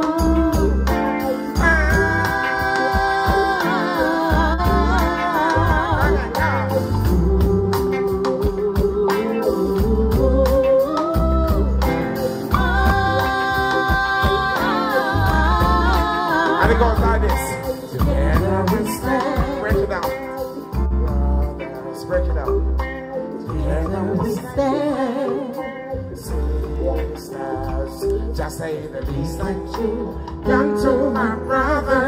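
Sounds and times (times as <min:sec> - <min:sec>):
live reggae band: 0:00.0 - 0:32.0
man singing through pa: 0:00.0 - 0:32.0
pulsing bass line: 0:00.0 - 0:32.0.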